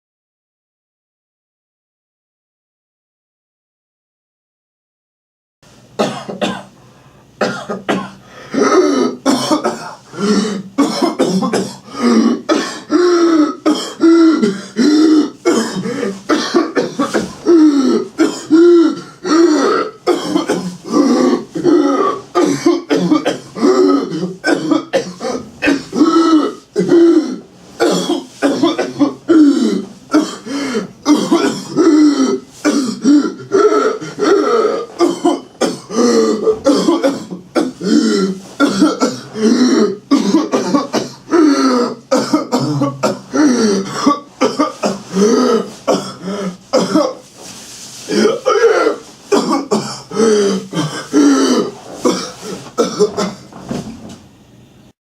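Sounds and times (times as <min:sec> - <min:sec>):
person coughing in fits: 0:06.0 - 0:06.8, 0:07.4 - 0:47.3, 0:48.1 - 0:53.5.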